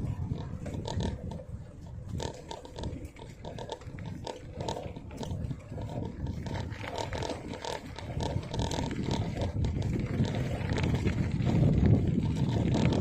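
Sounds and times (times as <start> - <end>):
faint clicks: 0.0 - 13.0
wind buffeting microphone: 0.0 - 13.0.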